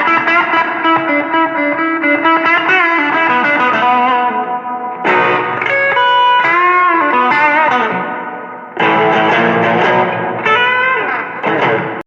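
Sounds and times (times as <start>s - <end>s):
fuzzy electric guitar lead: 0.0s - 12.0s.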